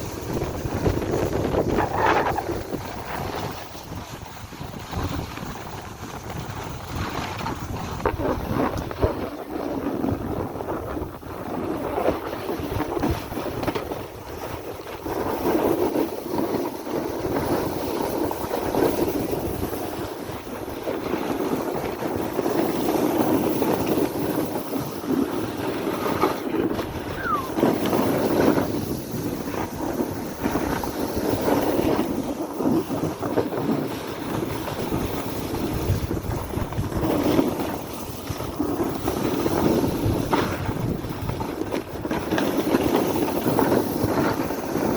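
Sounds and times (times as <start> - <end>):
sliding on snow: 0.0 - 44.9
wind buffeting microphone: 0.0 - 44.9.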